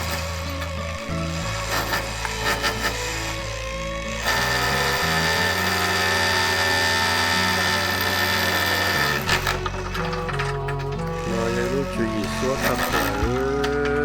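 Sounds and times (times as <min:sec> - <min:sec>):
background music: 0:00.0 - 0:14.0
power drill running: 0:00.0 - 0:14.0.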